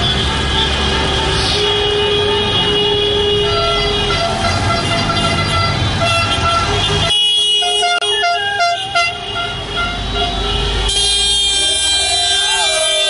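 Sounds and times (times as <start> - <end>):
car horns honking: 0.0 - 13.0.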